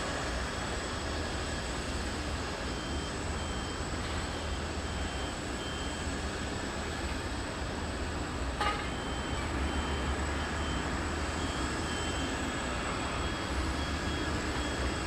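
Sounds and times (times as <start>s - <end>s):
aircraft and vehicle engines rumbling: 0.0s - 15.0s.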